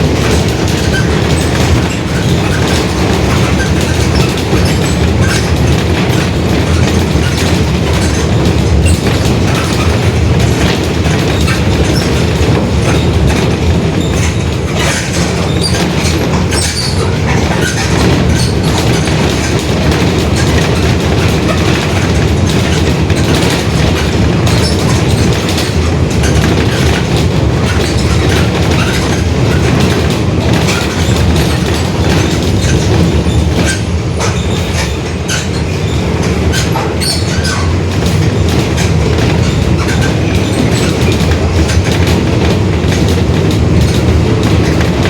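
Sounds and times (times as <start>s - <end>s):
body rattles and knocks: 0.0s - 45.0s
bus drivetrain running: 0.0s - 45.0s.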